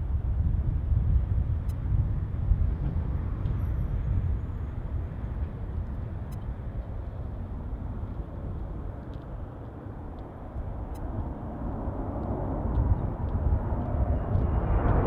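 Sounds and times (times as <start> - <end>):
distant jet engine rumble: 0.0 - 15.0
wind buffeting microphone: 0.0 - 15.0.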